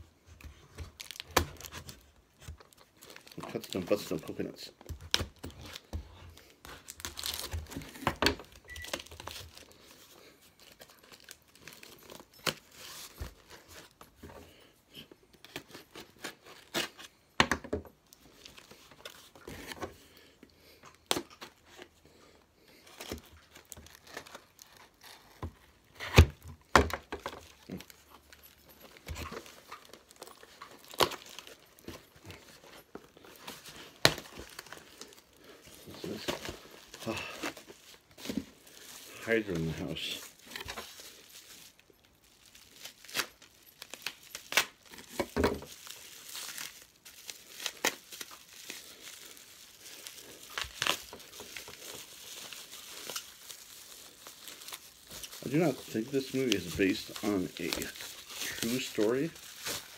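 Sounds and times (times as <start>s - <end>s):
cardboard tearing and crinkling: 0.4s - 14.3s, 15.4s - 17.3s, 22.8s - 59.9s.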